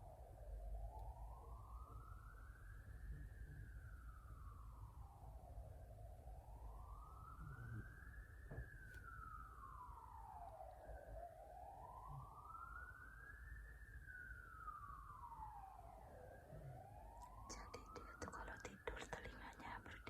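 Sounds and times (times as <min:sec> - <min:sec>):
faint wailing siren: 0:00.0 - 0:20.0.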